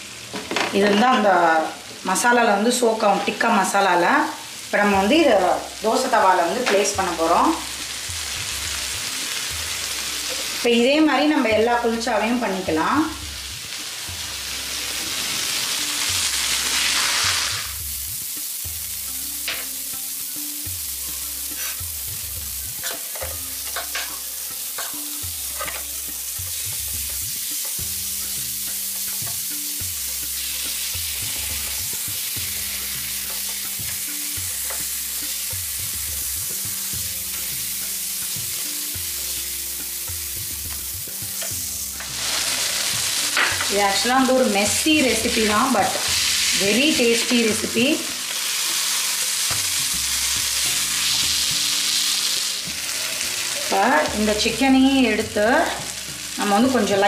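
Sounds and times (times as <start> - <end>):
food sizzling in oil in a frying pan: 0.0 - 57.0.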